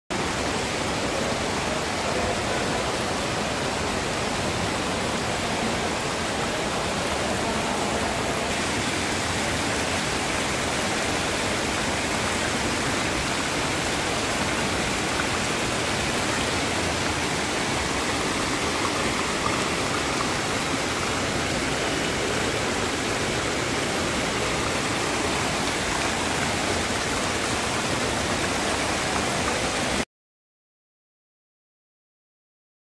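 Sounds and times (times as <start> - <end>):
fountain water splashing: 0.2 - 30.0.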